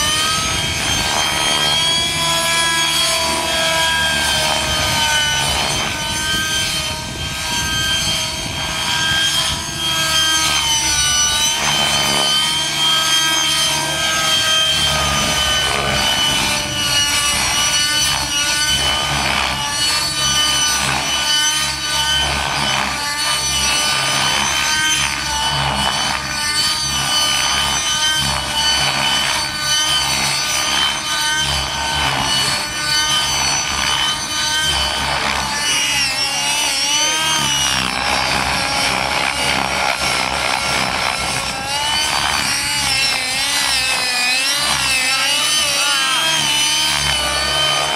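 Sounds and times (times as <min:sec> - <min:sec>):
buzzing rotor chop: 0:00.0 - 0:47.9
model helicopter engine whine: 0:00.0 - 0:47.9.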